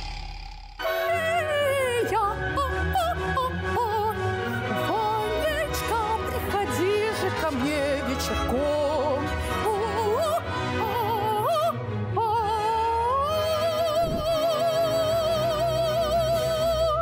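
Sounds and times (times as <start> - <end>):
woman singing operatically: 0.8 - 17.0.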